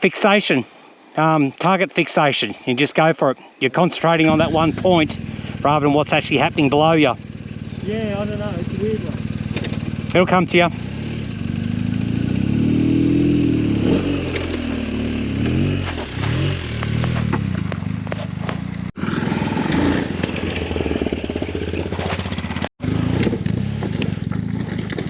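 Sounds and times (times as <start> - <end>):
motorcycle engine revving: 4.2 - 25.0.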